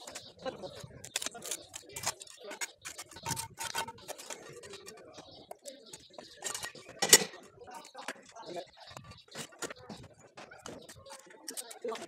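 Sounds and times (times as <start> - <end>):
trowel knocking and scraping bricks: 0.0 - 12.0.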